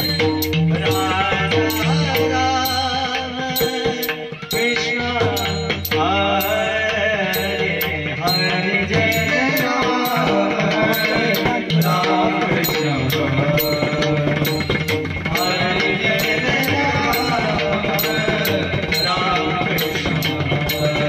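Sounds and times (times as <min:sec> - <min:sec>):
hand drum playing: 0:00.0 - 0:21.0
sharp metallic strikes: 0:00.0 - 0:21.0.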